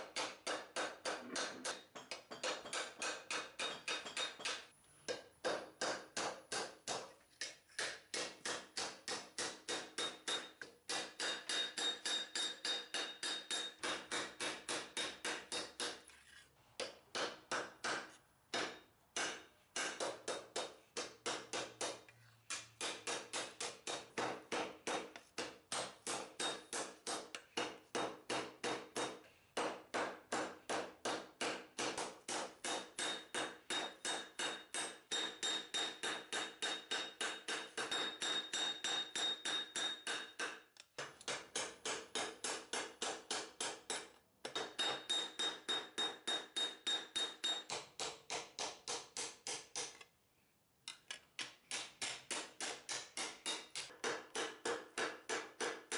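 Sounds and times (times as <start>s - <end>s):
hammer striking hot steel on anvil: 0.0s - 16.0s, 16.8s - 49.9s, 50.9s - 55.9s.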